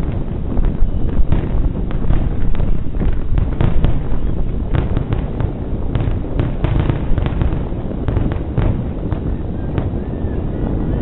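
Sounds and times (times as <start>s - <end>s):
firework shells bursting: 0.0s - 10.1s
steady low rumble: 0.0s - 11.0s.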